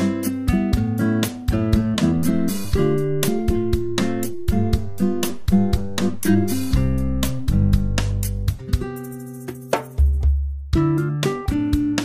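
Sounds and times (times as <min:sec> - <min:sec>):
plucked guitar over a beat: 0:00.0 - 0:09.7, 0:10.8 - 0:12.0.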